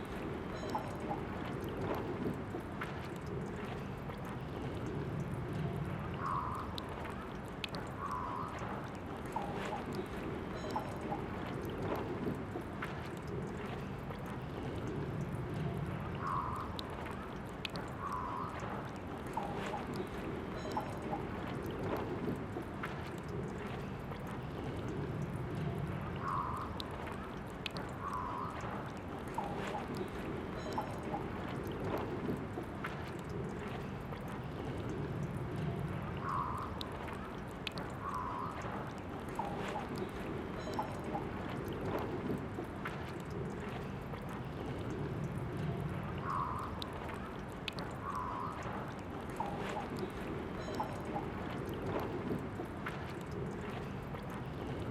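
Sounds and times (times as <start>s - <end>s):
drinking fountain water trickling: 0.0s - 54.9s.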